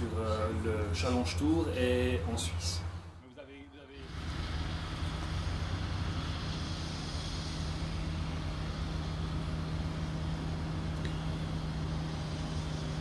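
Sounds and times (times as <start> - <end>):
constant low hum: 0.0 - 13.0
low mechanical rumble: 0.0 - 13.0.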